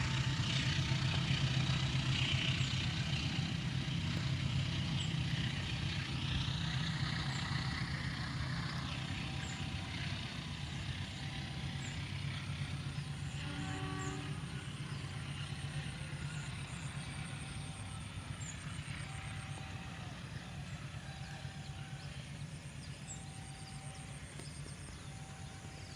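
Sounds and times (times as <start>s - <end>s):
locomotive engine rumbling: 0.0s - 25.9s.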